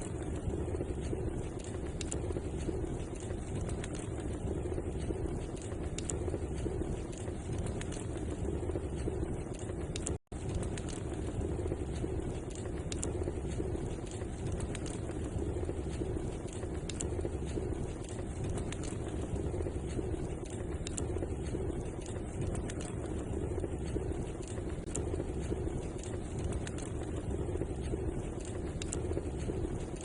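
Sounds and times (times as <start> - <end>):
fire crackling and popping: 0.0 - 30.0
flames rushing: 0.0 - 30.0.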